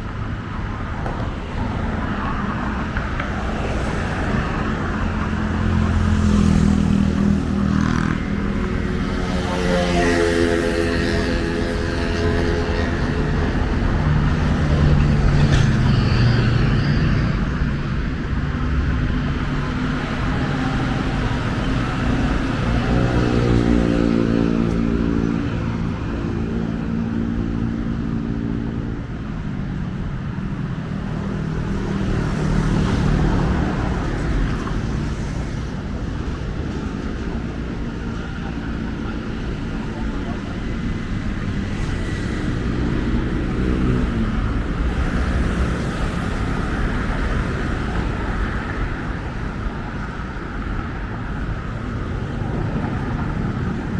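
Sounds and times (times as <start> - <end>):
passing cars and motorbikes: 0.0 - 53.9
road noise: 0.0 - 53.9.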